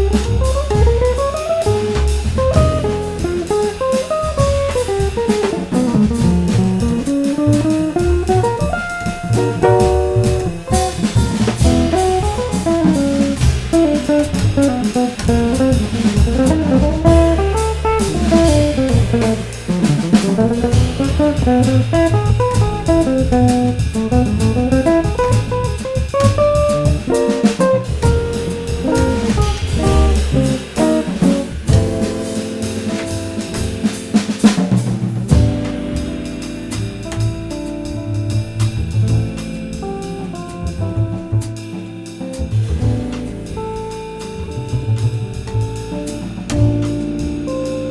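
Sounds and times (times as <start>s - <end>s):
double bass: 0.0s - 47.9s
drum kit: 0.0s - 47.9s.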